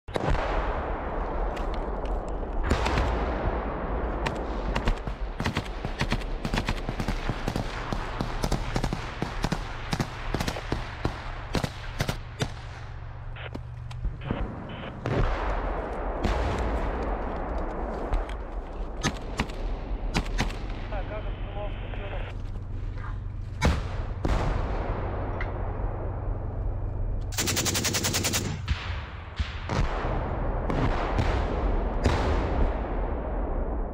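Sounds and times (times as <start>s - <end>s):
gunfire shots and bursts: 0.1s - 21.4s, 27.3s - 33.9s
continuous rushing noise: 1.2s - 29.9s.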